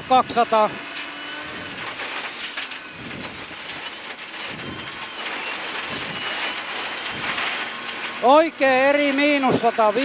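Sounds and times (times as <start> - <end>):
car engine under load: 0.0 - 10.0
stones rattling against car underside: 1.6 - 10.0.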